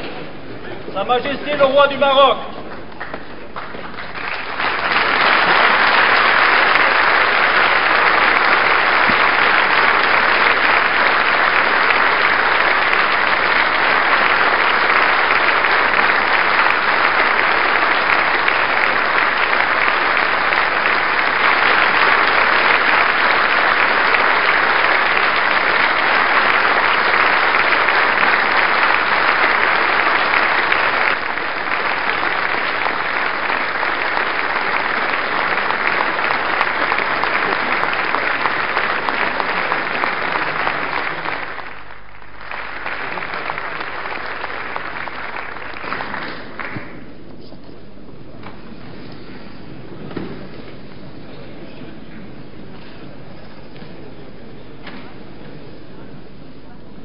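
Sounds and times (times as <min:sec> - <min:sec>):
large crowd applauding: 0:01.0 - 0:47.3.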